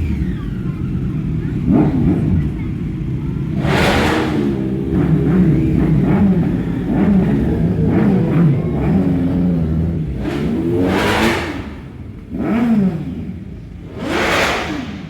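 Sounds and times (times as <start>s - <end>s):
superbike engines revving: 0.0s - 15.0s.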